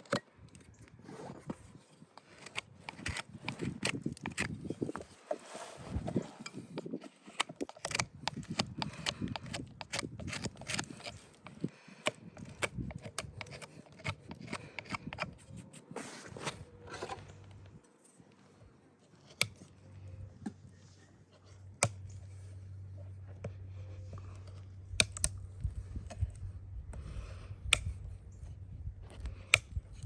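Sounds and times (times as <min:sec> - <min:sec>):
hoof trimming snips and scrapes: 0:00.0 - 0:30.0
low steady hum: 0:00.0 - 0:30.0.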